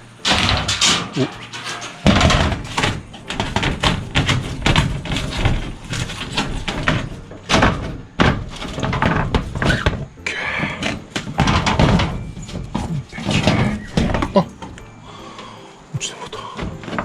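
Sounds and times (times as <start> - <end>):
construction knocks and bangs: 0.0 - 15.6, 16.4 - 17.0.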